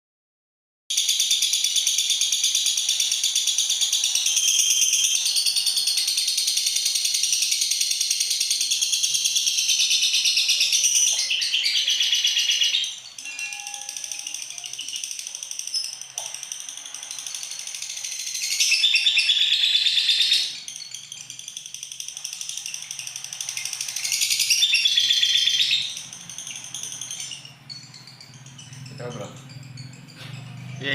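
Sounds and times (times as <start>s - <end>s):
lovebird chattering trills: 1.0s - 30.9s.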